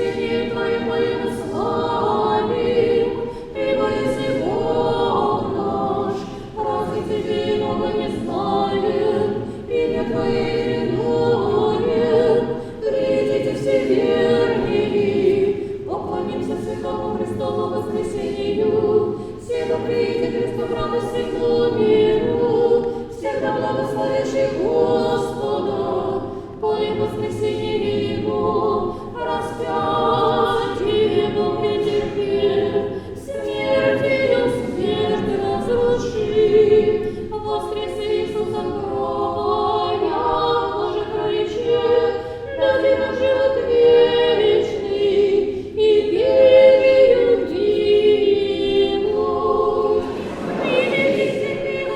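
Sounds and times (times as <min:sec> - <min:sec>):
choir singing chant: 0:00.0 - 0:51.9.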